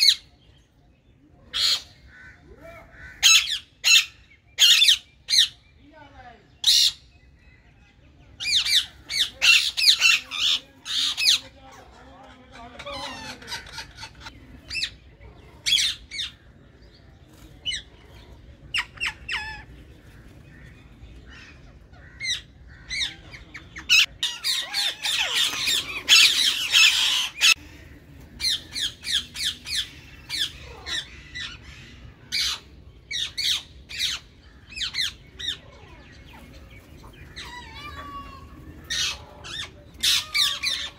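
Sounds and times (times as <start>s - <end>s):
parakeets squawking: 1.5s - 5.6s, 6.6s - 7.1s, 8.4s - 15.0s, 15.6s - 16.4s, 17.6s - 20.7s, 21.3s - 40.9s.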